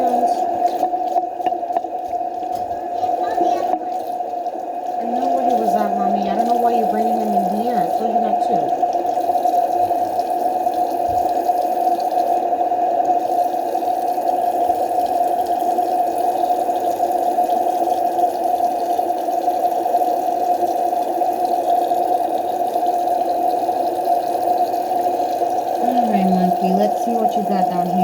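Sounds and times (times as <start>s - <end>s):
tap water running into sink: 0.0s - 28.0s.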